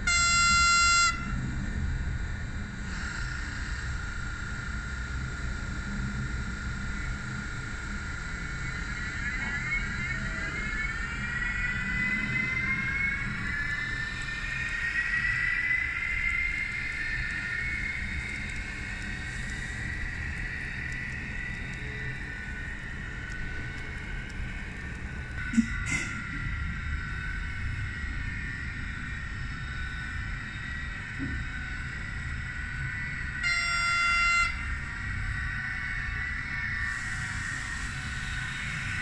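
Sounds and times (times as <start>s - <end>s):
steady electronic whine: 0.0s - 39.0s.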